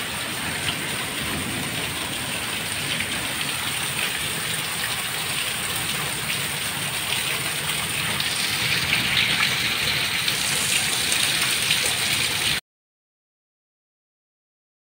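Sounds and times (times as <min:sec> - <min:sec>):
torrential rain on pavement: 0:00.0 - 0:12.6.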